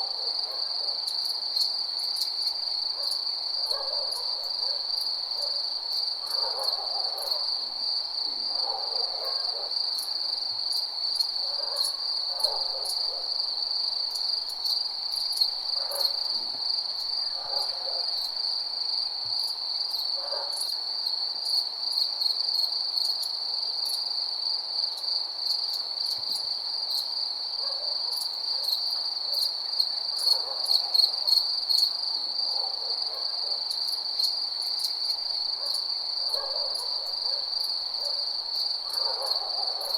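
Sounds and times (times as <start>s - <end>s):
crickets trilling: 0.0s - 39.9s
soft low insect calls: 0.0s - 39.9s.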